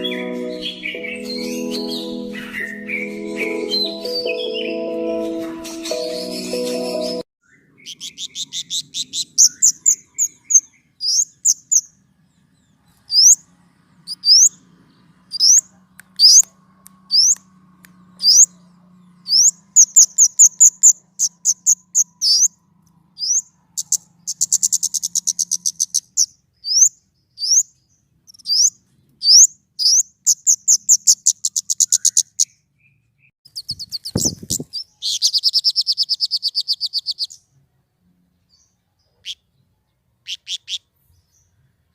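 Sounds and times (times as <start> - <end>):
songbird chirping: 0.0 - 41.9.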